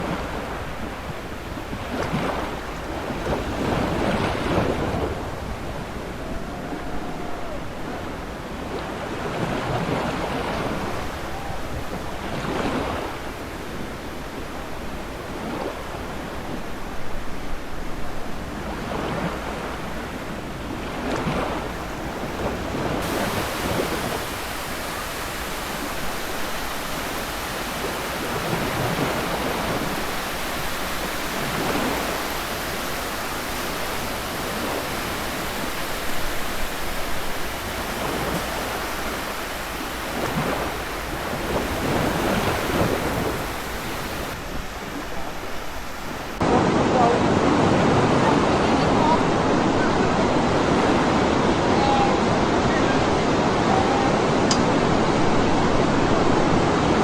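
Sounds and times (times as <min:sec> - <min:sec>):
waves breaking on beach: 0:00.0 - 0:57.0
wind on microphone: 0:00.0 - 0:57.0.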